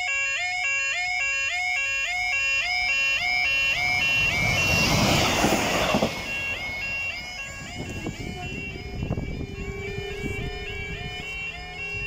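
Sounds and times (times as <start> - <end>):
level crossing alarm two-tone yodel: 0.0 - 12.0
diesel railcar passing: 2.2 - 12.0.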